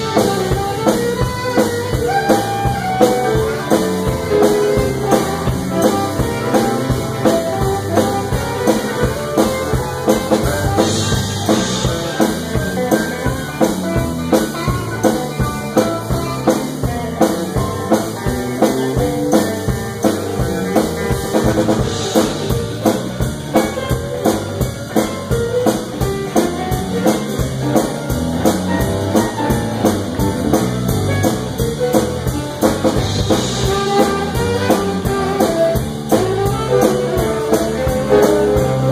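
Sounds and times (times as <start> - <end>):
bass guitar: 0.0 - 38.9
drum kit beat: 0.0 - 38.9
electric guitar: 0.0 - 38.9.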